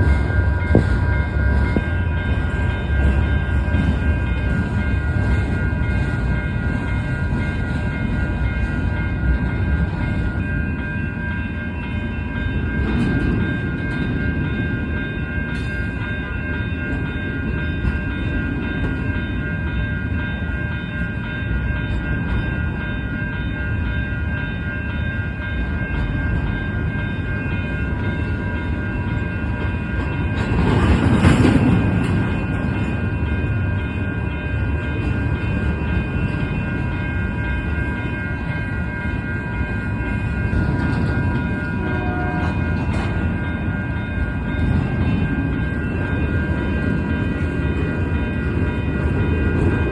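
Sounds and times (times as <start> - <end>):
freight train rumbling past: 0.0 - 49.9
high ringing tones: 0.0 - 49.9.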